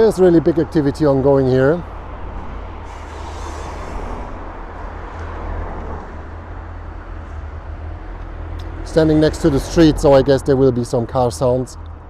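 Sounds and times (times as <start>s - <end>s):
vehicle passing by: 0.0s - 10.8s
road traffic noise: 0.0s - 12.0s.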